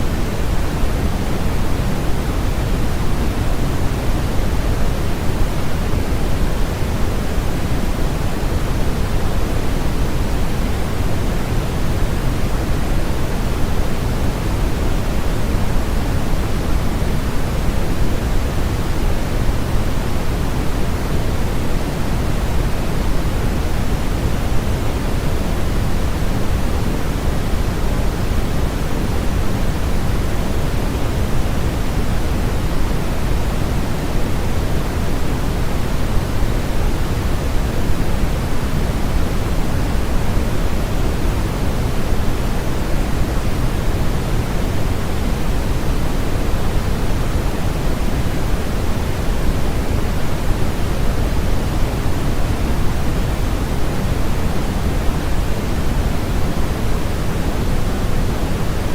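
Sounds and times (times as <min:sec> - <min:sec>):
bass-heavy white noise: 0:00.0 - 0:58.9.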